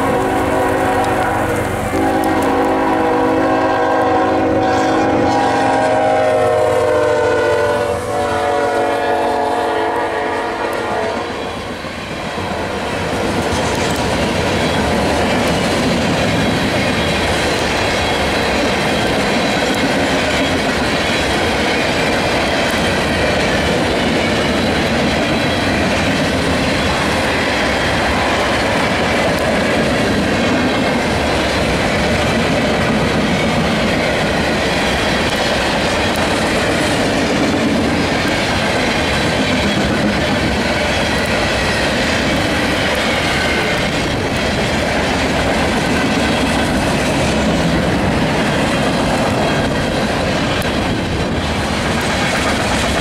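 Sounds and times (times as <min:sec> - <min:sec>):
freight train wheels clattering on rails: 0:00.0 - 0:06.9, 0:09.0 - 0:53.0.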